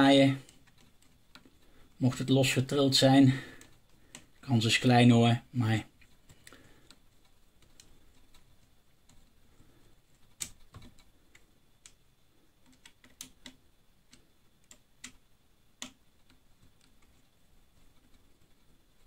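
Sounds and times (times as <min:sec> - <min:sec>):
small screws and plastic parts clicking: 0:00.1 - 0:02.3, 0:03.4 - 0:05.0, 0:05.8 - 0:19.0.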